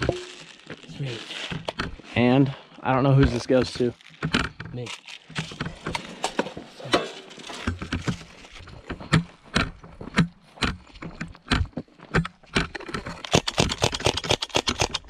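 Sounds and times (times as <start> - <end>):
sharp clicks and knocks: 1.5 - 2.0, 3.2 - 15.0.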